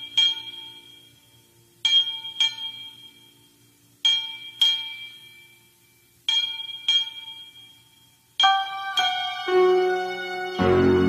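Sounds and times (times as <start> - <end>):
bell-like tones ringing: 0.0 - 11.0.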